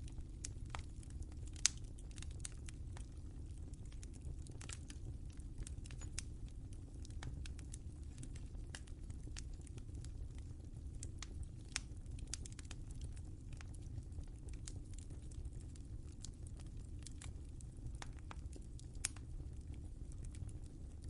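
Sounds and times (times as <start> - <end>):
low steady rumble: 0.0 - 21.0
wood fire crackling: 0.0 - 21.0.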